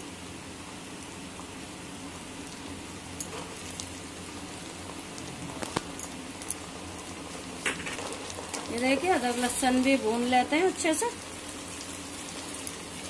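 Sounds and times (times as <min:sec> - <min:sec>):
food sizzling in oil: 0:00.5 - 0:13.0
oil popping and crackling: 0:02.3 - 0:13.0.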